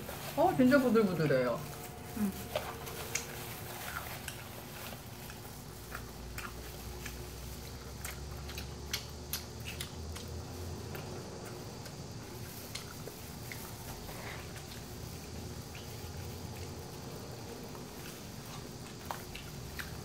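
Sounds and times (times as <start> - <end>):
chewing crispy fried chicken: 0.0 - 20.0.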